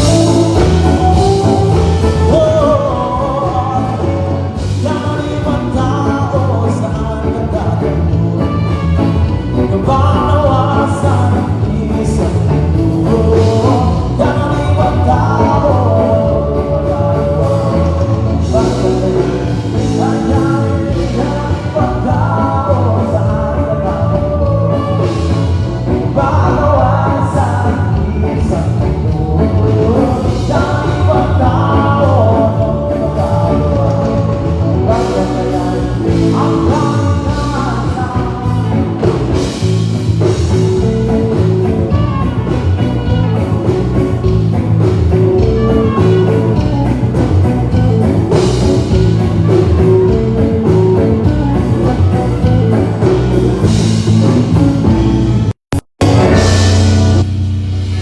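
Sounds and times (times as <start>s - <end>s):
person singing: 0.0s - 54.9s
bass guitar: 0.0s - 58.0s
drum kit: 0.0s - 58.0s
electric guitar: 0.0s - 58.0s.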